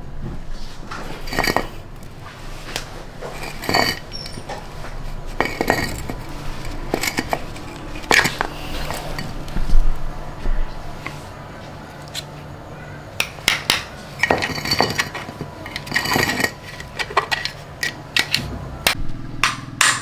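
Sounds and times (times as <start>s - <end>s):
dishes and utensils clattering: 0.0s - 19.0s.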